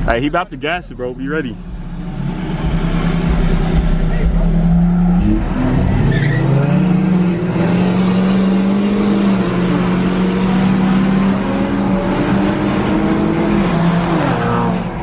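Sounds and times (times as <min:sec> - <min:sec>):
road noise: 0:00.0 - 0:15.0
vehicle engine accelerating hard: 0:00.0 - 0:15.0.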